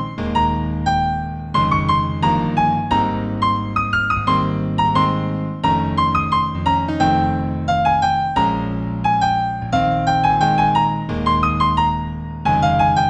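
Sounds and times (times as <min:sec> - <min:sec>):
slow solo piano piece: 0:00.0 - 0:13.0.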